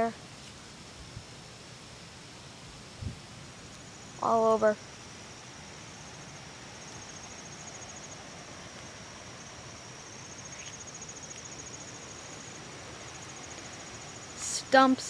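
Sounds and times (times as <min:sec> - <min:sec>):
insects chirping: 0:00.0 - 0:15.0
soft hiss: 0:00.0 - 0:15.0.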